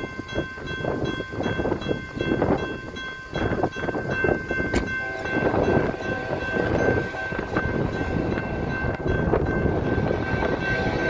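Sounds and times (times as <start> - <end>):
crossing bell ringing tone: 0.0 - 11.0
freight train rumble and rattle: 0.0 - 11.0.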